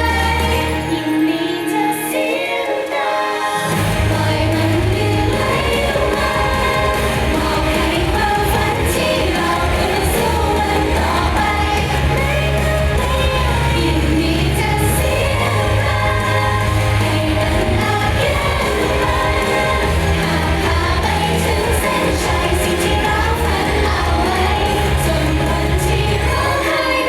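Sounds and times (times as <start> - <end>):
female group singing pop song: 0.0 - 27.0
heavy bass line: 3.7 - 27.0.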